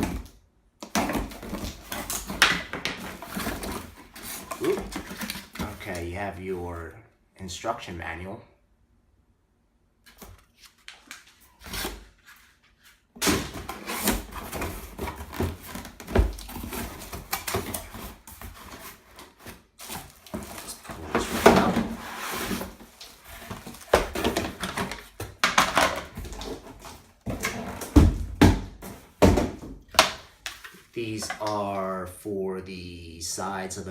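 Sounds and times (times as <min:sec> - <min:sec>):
packaging rustling and clattering: 0:00.0 - 0:06.0, 0:10.1 - 0:31.5.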